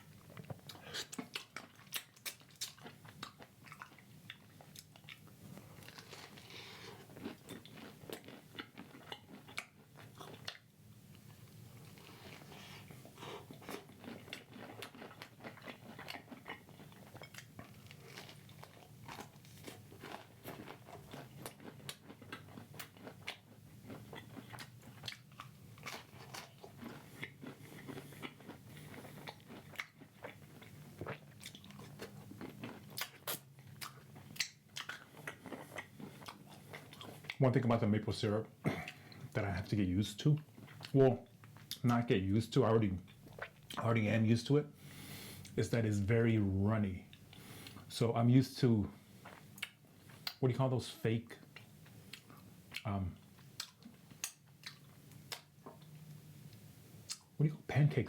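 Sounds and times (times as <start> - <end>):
man chewing crunchy food: 0.0 - 37.4, 40.4 - 41.9, 43.1 - 43.8, 49.2 - 50.4, 51.4 - 57.4.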